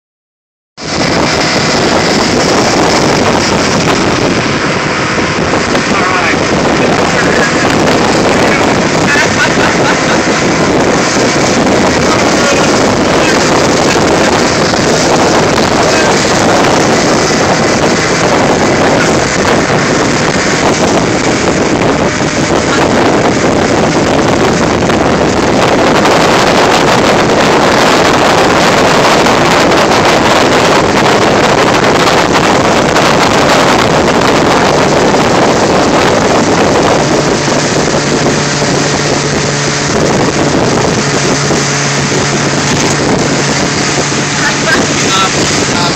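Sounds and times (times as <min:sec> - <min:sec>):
boat wake churning: 0:00.8 - 0:45.9
low engine hum: 0:00.8 - 0:45.9
wind buffeting microphone: 0:00.8 - 0:45.9.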